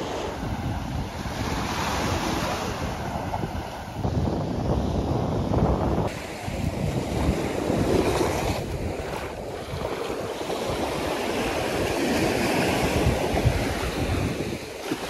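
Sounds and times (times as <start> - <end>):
surf washing over sand: 0.0 - 15.0
wind buffeting microphone: 0.0 - 15.0.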